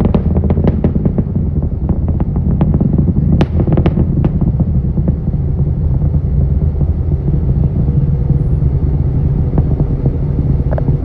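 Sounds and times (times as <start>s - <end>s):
distant rocket engine rumble: 0.0s - 11.0s.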